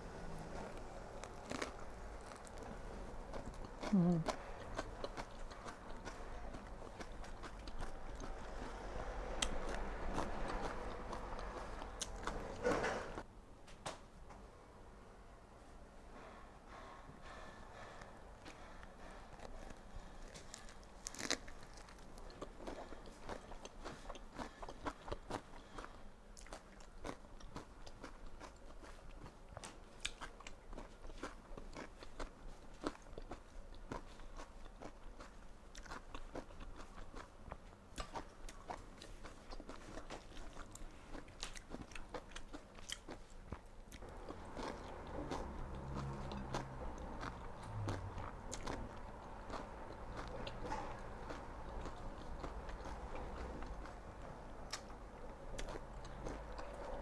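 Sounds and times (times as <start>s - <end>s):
crunchy bites and chewing: 0.4s - 13.2s, 19.4s - 57.0s.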